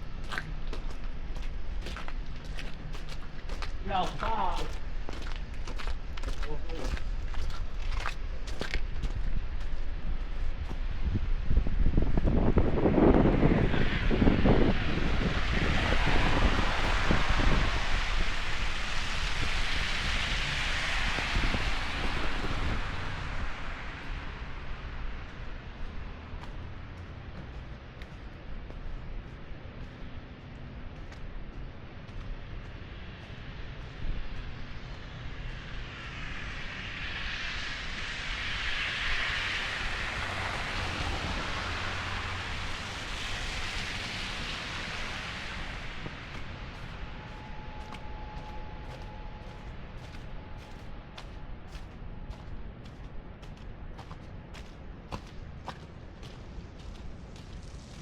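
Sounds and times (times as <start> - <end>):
wind gusting over microphone: 0.0 - 28.6, 32.8 - 58.0.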